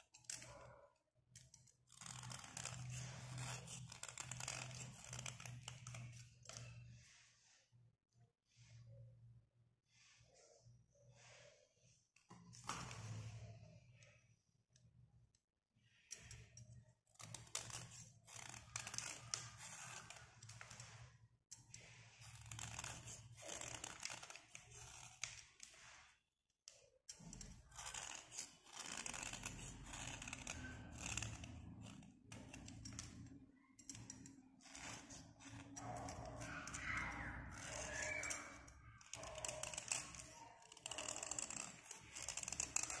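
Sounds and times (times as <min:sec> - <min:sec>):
blade scraping pencil: 0:00.0 - 0:07.8, 0:09.9 - 0:43.0.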